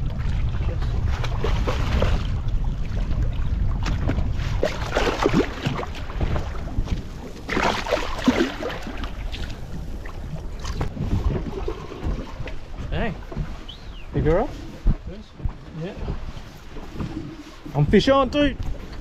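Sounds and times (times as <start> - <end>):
steady low rumble: 0.0 - 19.0
water splashing against hull: 0.0 - 19.0
wind buffeting microphone: 0.0 - 19.0.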